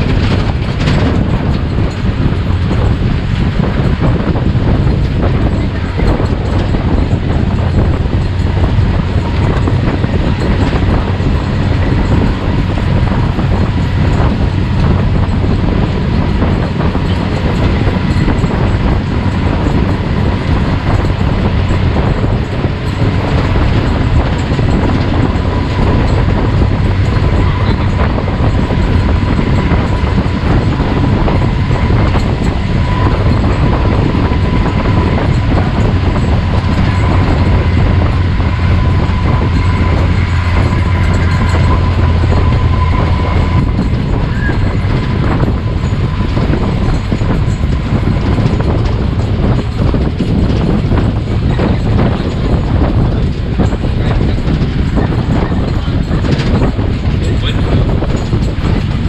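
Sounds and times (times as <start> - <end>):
vehicle engine rumbling hum: 0.0 - 59.0.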